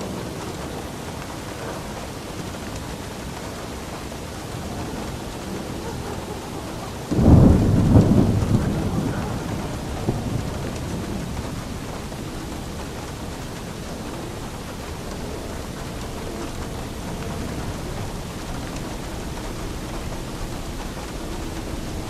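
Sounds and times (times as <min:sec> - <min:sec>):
steady rain: 0:00.0 - 0:22.0
thunder clap and rumble: 0:00.0 - 0:22.0.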